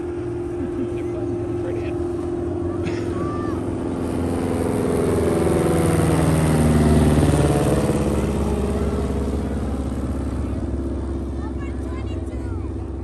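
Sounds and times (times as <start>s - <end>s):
propeller plane passing overhead: 0.0s - 13.0s.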